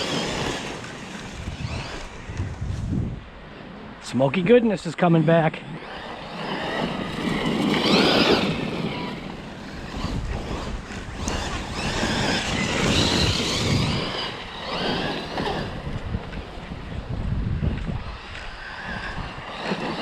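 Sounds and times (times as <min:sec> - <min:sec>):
electric motor whining: 0:00.0 - 0:03.2, 0:05.7 - 0:20.0
wind on microphone: 0:00.0 - 0:03.5, 0:05.8 - 0:20.0
tyres on loose dirt: 0:00.0 - 0:20.0.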